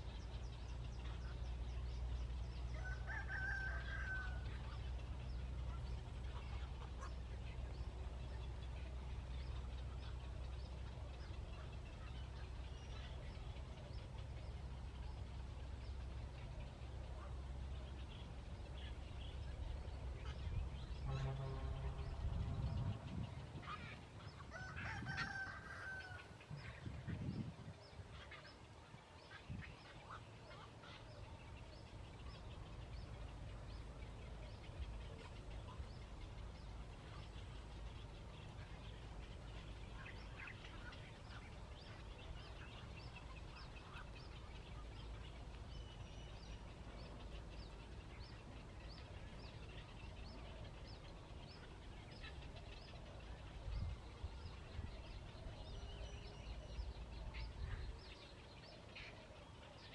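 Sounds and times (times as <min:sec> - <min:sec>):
flock of birds calling: 0:00.0 - 0:59.9
steady low rumble: 0:03.8 - 0:59.1.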